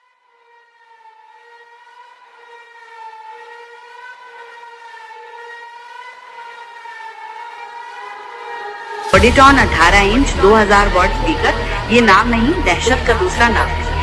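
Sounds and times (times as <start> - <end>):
siren-like wailing tone: 0.0 - 14.0.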